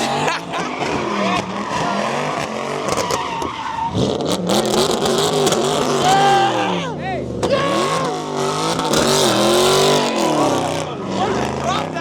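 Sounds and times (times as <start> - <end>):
car engine revving: 0.0 - 12.0
tires squealing on pavement: 0.0 - 12.0.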